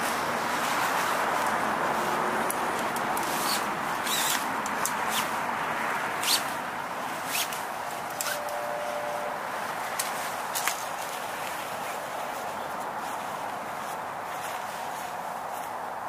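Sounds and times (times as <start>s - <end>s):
road traffic noise: 0.0s - 16.0s
tent poles clicking and rustling: 0.0s - 16.0s.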